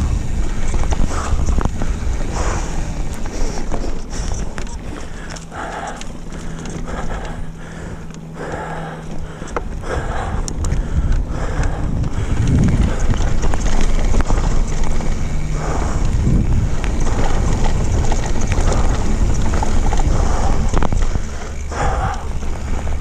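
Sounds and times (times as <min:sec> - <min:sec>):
wind noise on microphone: 0:00.0 - 0:08.5, 0:09.2 - 0:23.0
bike rattling and knocking: 0:00.0 - 0:23.0
tyres rumbling on dirt: 0:00.0 - 0:23.0.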